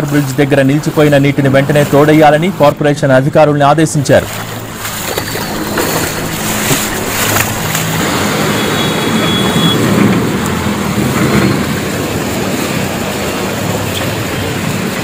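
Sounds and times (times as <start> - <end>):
steady wash of noise: 0.0 - 15.0
vehicle engine hum: 0.0 - 15.0.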